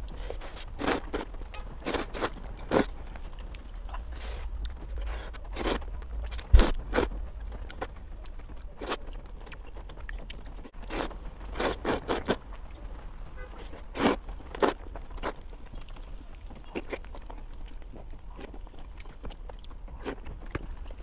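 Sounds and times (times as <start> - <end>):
noodles slurped and chewed: 0.0 - 7.9, 8.6 - 12.4, 13.9 - 15.9, 16.6 - 21.0.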